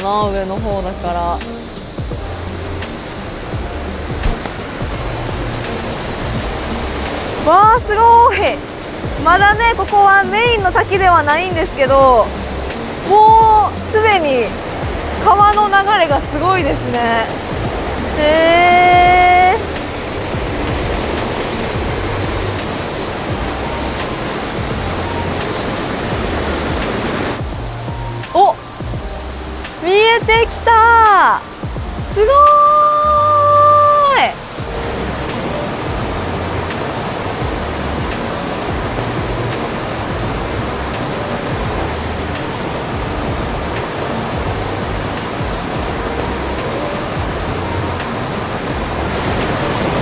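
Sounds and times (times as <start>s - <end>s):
faint background music: 0.0s - 50.0s
stream rushing over rocks: 0.0s - 50.0s
low bass line: 0.2s - 31.0s, 31.6s - 32.5s, 33.1s - 34.0s, 34.6s - 50.0s.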